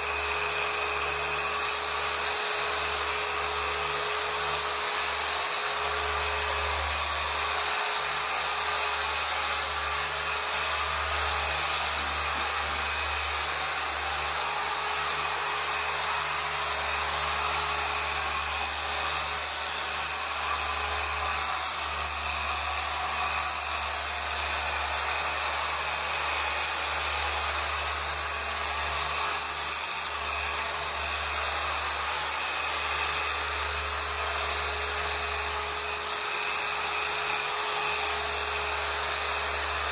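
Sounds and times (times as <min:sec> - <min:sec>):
cleaning machine motor whine: 0:00.0 - 0:39.9.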